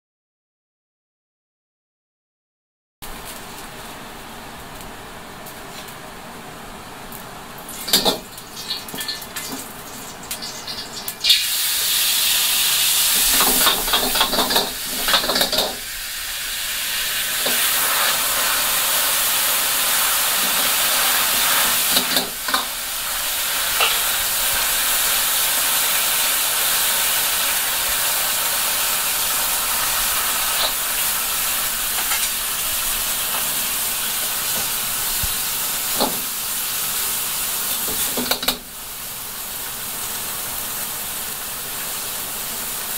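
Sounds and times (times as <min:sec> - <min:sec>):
stock hissing and boiling in a wok: 0:03.1 - 0:42.9.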